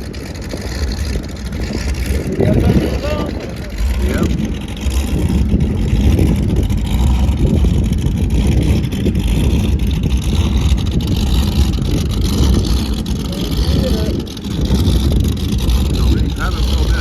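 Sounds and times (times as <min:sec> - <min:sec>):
motorboat engine rumbling: 0:00.0 - 0:17.0.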